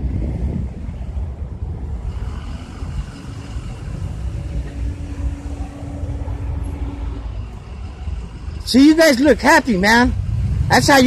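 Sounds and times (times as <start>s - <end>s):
car engines idling: 0.0s - 11.0s
steady hum: 0.0s - 11.0s.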